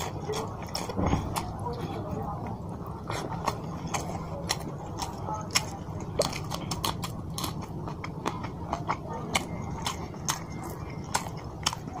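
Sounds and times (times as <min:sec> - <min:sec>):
steady low hum: 0:00.0 - 0:12.0
wet chewing and lip smacks: 0:00.0 - 0:12.0.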